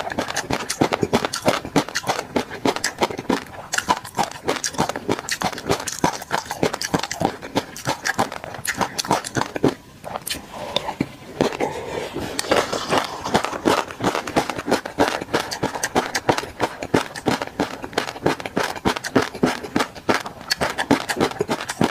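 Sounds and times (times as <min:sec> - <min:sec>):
chewing with wet popping: 0:00.0 - 0:21.9.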